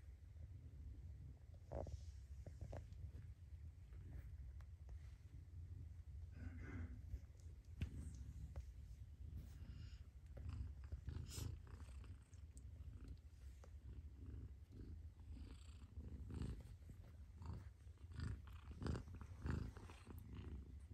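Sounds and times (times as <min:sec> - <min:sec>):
cat purring: 0:00.5 - 0:20.9.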